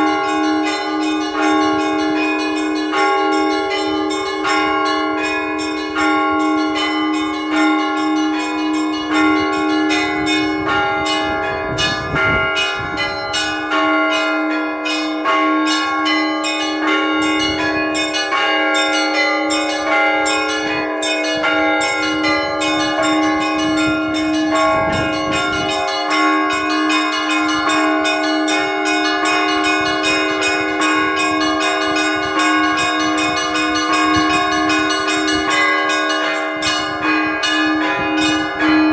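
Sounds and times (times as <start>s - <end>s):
large bell ringing: 0.0s - 38.9s
small bells struck rapidly: 0.0s - 38.9s.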